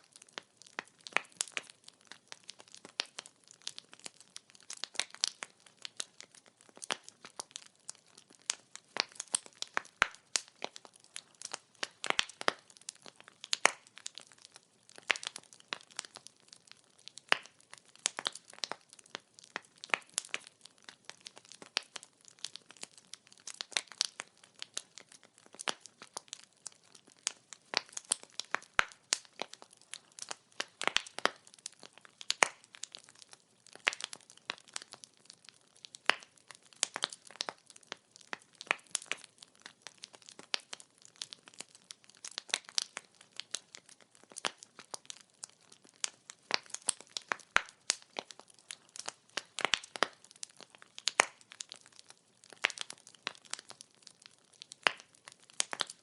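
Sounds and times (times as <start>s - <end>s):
firewood crackling: 0.0s - 56.0s.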